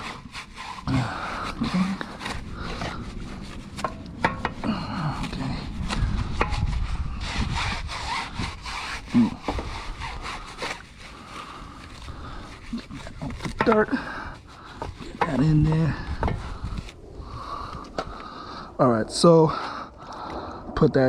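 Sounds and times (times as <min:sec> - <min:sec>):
bristle brush scrubbing wheel: 0:00.0 - 0:17.0.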